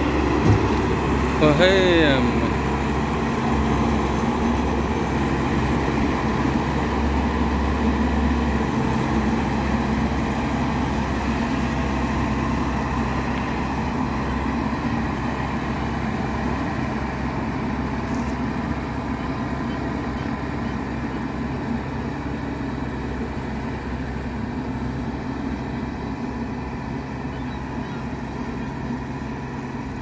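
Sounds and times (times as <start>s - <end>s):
combine harvester engine running: 0.0s - 30.0s.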